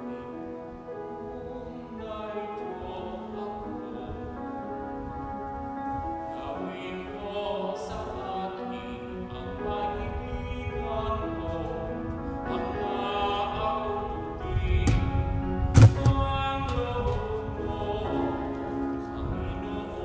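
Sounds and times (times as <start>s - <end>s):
instrumental accompaniment: 0.0s - 20.0s
slow hymn singing: 0.0s - 20.0s.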